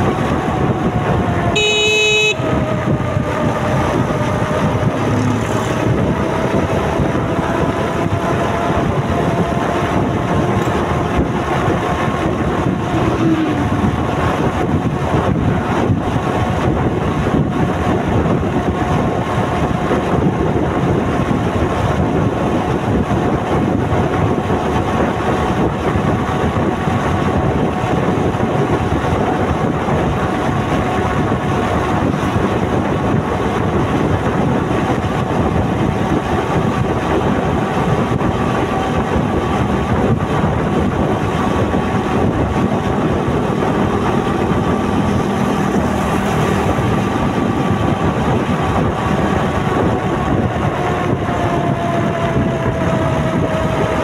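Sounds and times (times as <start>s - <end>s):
motorcycle running: 0.0s - 54.0s
wind rushing over microphone: 0.0s - 54.0s.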